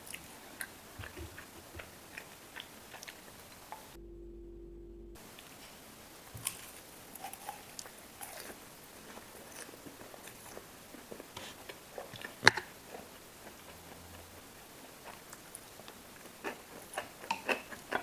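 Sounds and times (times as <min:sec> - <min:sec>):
biting and chewing: 0:00.0 - 0:04.0, 0:06.4 - 0:18.0.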